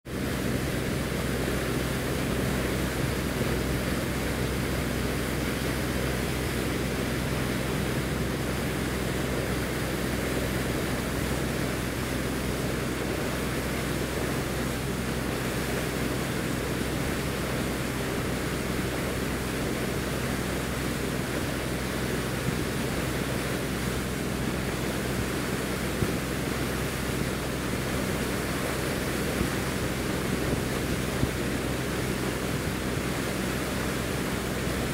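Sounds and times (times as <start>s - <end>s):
boat engine droning: 0.1s - 34.9s
wind and water rushing: 0.1s - 34.9s.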